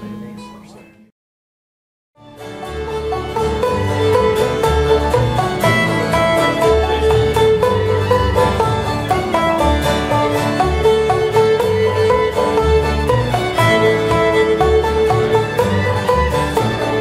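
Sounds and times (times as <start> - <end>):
acoustic guitar: 2.2 - 17.0
banjo: 2.2 - 17.0
fiddle melody: 2.2 - 17.0
upright bass: 2.4 - 17.0.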